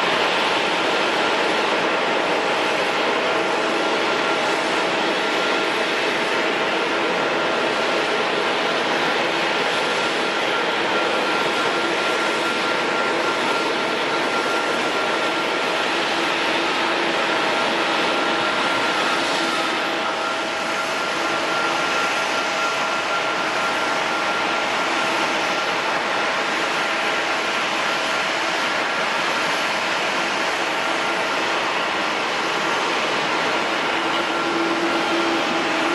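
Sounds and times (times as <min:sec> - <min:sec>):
jet engines running: 0:00.0 - 0:35.9.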